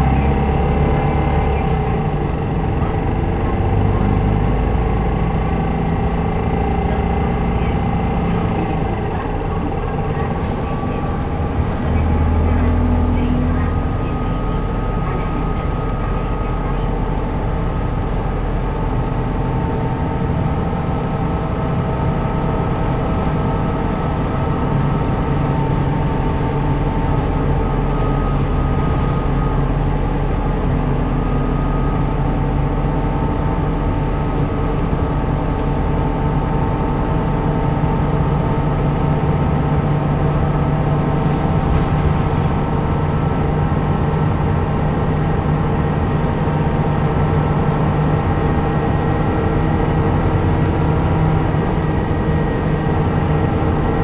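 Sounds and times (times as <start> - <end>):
bus engine droning: 0.0 - 54.0
road noise: 0.0 - 54.0.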